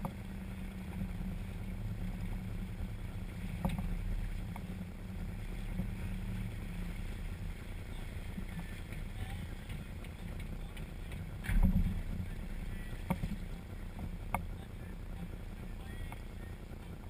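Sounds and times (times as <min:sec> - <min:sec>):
boat engine idling: 0:00.0 - 0:17.0
water noise: 0:00.0 - 0:17.0
wind: 0:00.0 - 0:17.0.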